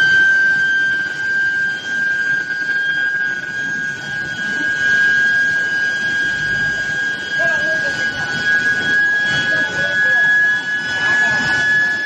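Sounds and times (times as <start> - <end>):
induction furnace high-pitched whine: 0.0 - 12.0.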